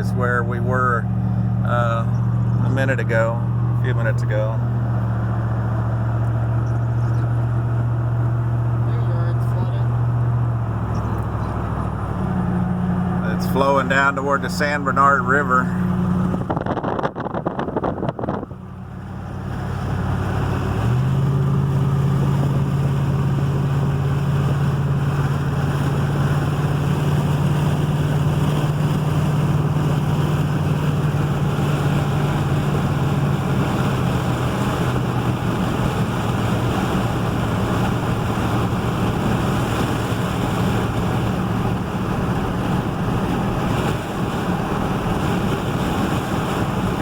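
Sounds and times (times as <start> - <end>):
road and wind noise: 0.0 - 47.0
vehicle engine hum: 0.0 - 47.0.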